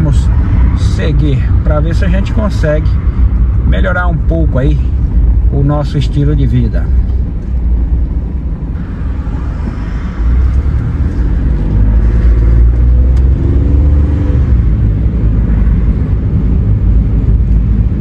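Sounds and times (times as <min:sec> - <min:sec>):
car engine: 0:00.0 - 0:18.0
road rumble: 0:00.0 - 0:18.0.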